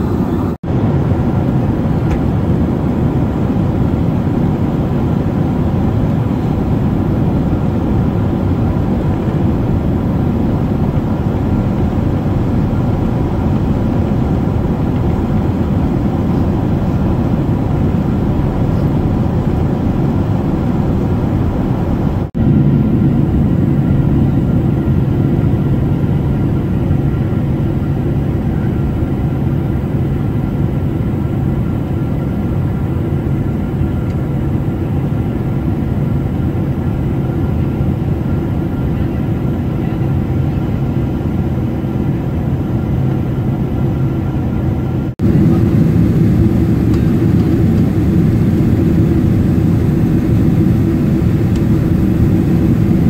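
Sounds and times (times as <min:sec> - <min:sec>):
jet engine and airflow roar: 0:00.0 - 0:53.0
low steady hum: 0:00.0 - 0:53.0.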